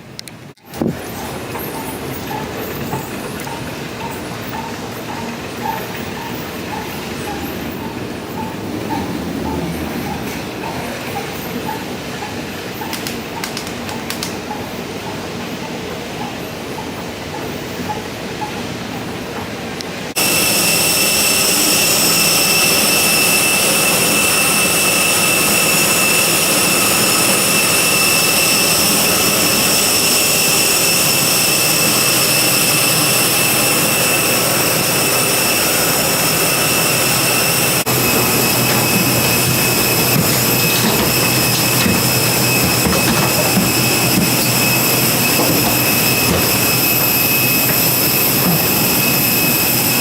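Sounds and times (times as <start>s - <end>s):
jet turbine whine: 0.6s - 50.0s.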